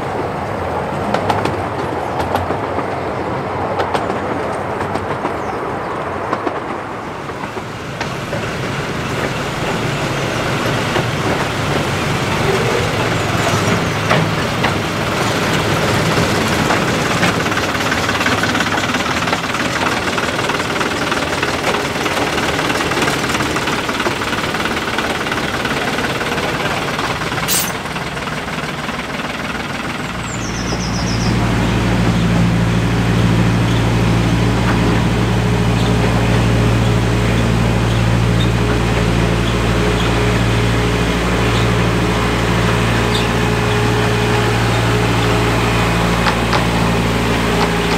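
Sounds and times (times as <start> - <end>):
diesel locomotive engine hum: 0.0 - 47.9
train rumble: 0.0 - 47.9.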